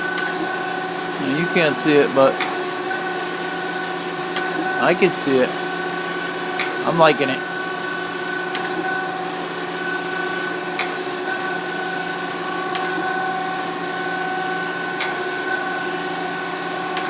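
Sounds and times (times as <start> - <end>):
surface grinder humming and whining: 0.0 - 17.0.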